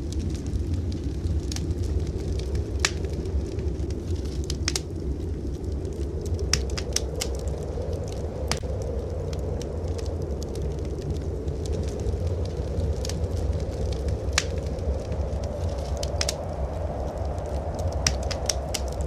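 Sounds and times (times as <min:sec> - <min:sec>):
fire pops: 0:00.0 - 0:19.0
low fire rumble: 0:00.0 - 0:19.0
wood fire crackling: 0:00.0 - 0:19.0.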